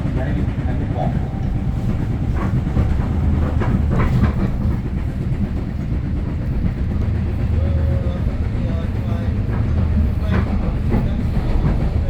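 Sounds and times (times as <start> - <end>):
train rumbling on rails: 0.0 - 12.0
train wheel clacks: 0.0 - 12.0.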